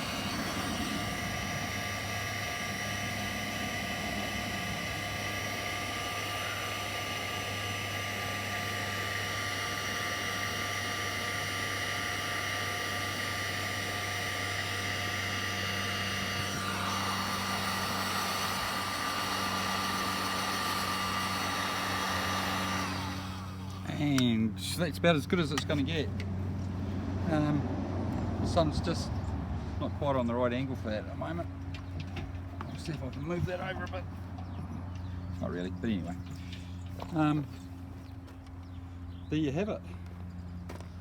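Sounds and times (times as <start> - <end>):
heat gun fan hiss and whine: 0.0 - 26.4, 29.7 - 39.8.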